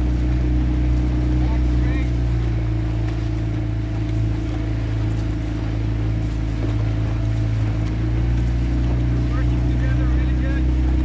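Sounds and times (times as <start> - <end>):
motorboat engine low drone: 0.0 - 11.0.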